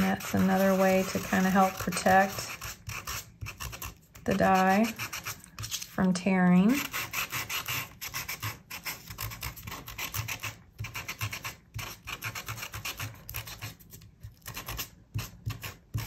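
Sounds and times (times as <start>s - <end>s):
sandpaper scratching cardstock: 0.0s - 6.0s, 6.8s - 16.0s.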